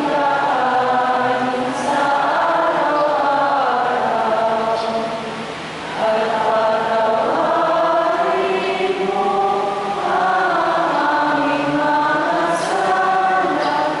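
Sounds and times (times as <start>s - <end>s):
voices singing slow song: 0.0s - 14.0s.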